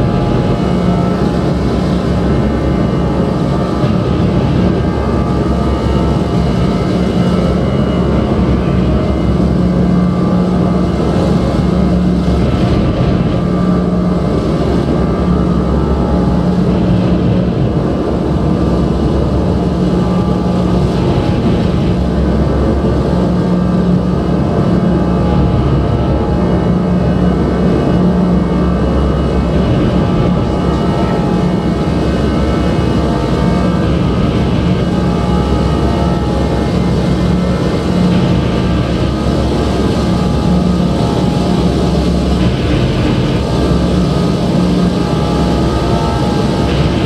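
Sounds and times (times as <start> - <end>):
drone music: 0.0 - 47.0
strong low hum: 0.0 - 47.0.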